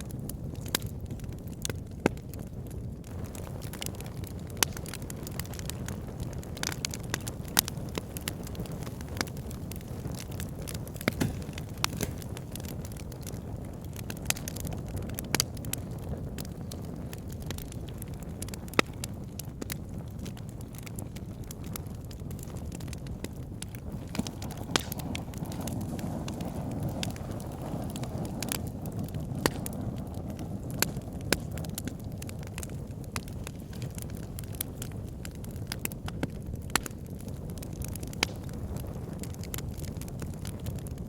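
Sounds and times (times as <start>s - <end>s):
low rumble of fire: 0.0s - 41.0s
wood logs crackling and popping: 0.0s - 41.0s.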